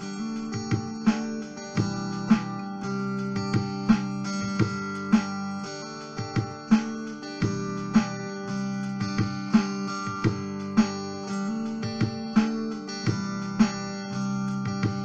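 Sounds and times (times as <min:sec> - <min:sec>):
electric guitar strumming chords: 0:00.0 - 0:15.0.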